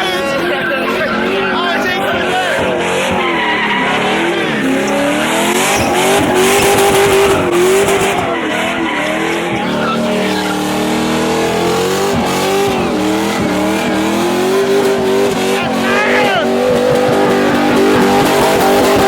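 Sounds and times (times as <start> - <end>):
car engine revving: 0.0 - 19.0
tyres squealing and skidding: 0.0 - 19.0.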